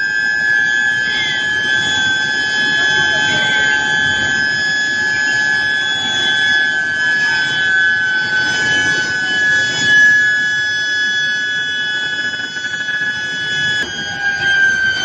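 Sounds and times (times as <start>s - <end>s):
high-pitched whine of induction coils: 0.0s - 15.0s.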